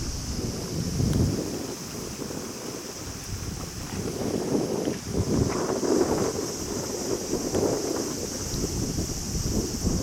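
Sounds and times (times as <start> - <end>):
steady high hiss: 0.0 - 10.0
wind buffeting microphone: 0.0 - 10.0.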